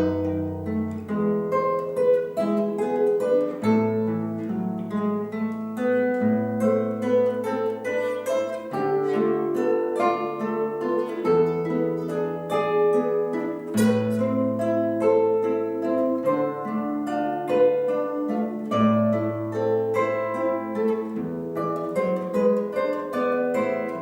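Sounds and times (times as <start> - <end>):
plucked string melody: 0.0 - 24.0.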